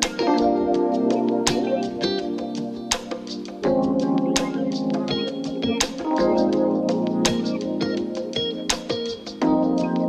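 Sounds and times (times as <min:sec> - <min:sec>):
music with held chords and beat: 0:00.0 - 0:10.0.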